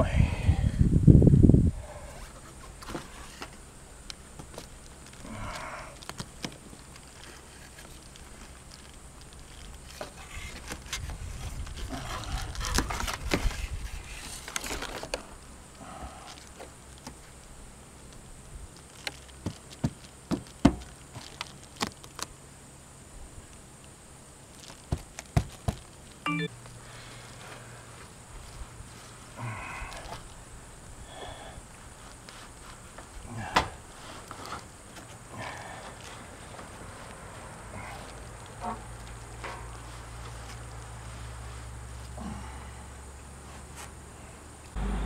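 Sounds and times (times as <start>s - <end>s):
rustling and scraping: 1.8s - 15.4s, 16.2s - 22.4s, 24.4s - 26.2s, 26.9s - 30.5s, 31.7s - 42.2s, 43.3s - 44.0s.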